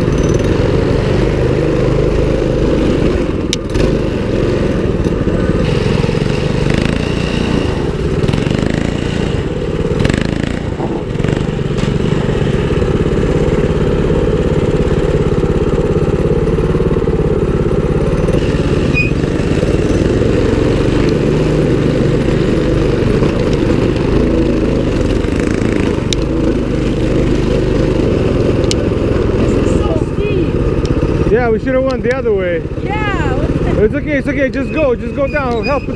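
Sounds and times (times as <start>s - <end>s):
mini bike engine running: 0.0s - 35.9s.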